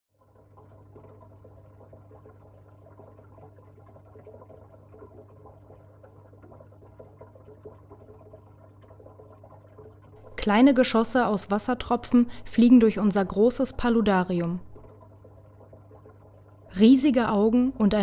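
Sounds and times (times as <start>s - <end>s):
water trickling: 0.1s - 18.0s.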